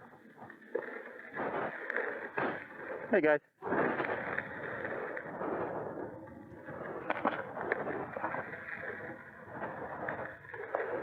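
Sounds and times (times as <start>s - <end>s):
wind and tyre noise: 0.0s - 11.0s.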